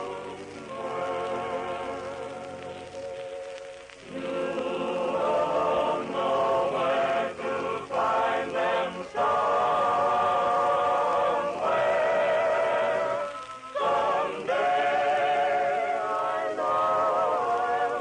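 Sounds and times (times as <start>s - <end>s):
vocal group singing in harmony: 0.0s - 3.4s, 4.0s - 18.0s.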